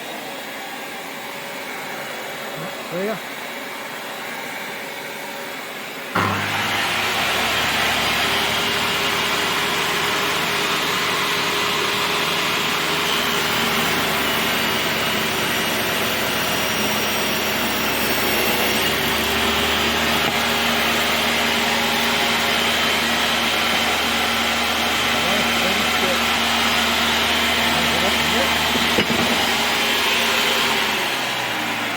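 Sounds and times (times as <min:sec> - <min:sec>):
table saw whining: 0:00.0 - 0:31.9.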